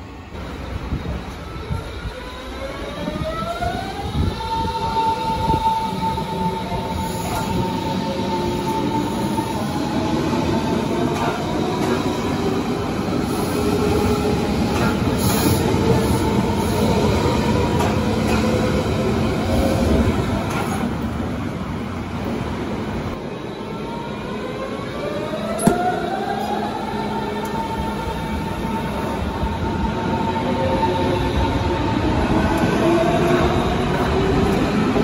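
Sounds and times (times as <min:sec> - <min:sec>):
train wheels rumbling on rails: 0:00.3 - 0:35.0.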